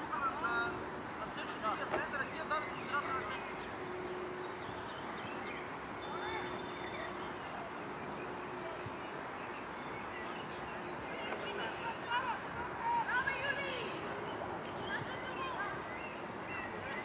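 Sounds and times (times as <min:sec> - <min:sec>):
insect chirping: 0:00.0 - 0:11.1, 0:11.7 - 0:17.0
background hiss: 0:00.0 - 0:17.0
faint distant voices: 0:00.0 - 0:17.0.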